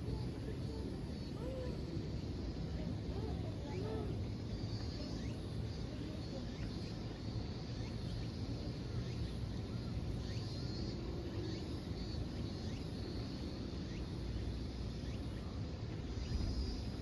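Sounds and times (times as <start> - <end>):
faint high insect hum: 0.0 - 17.0.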